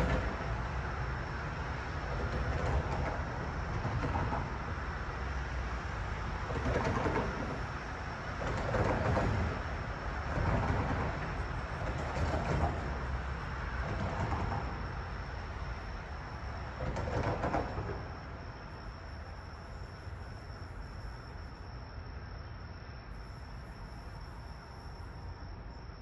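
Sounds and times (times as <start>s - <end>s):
low train rumble: 0.0s - 26.0s.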